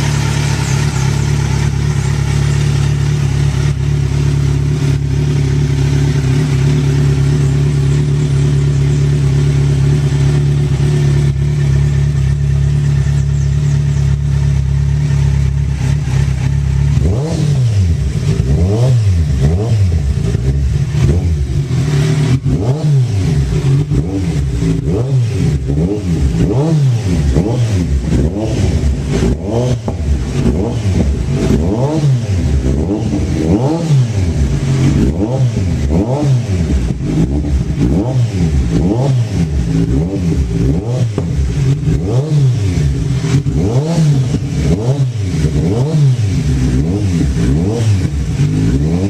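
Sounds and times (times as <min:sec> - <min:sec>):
motorcycle engine idling and revving: 0:00.0 - 0:49.0.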